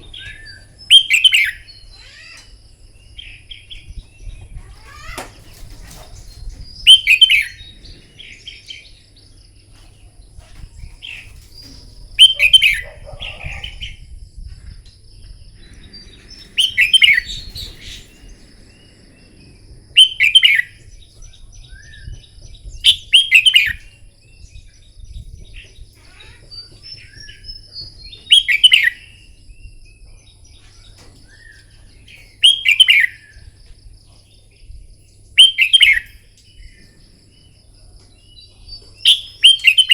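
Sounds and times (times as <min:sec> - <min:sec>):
soft bird chirps: 0:00.0 - 0:39.9.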